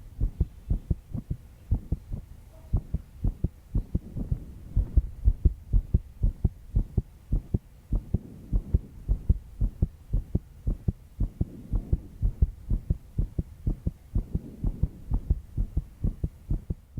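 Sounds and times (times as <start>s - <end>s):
fast heartbeat thuds: 0.0s - 16.9s.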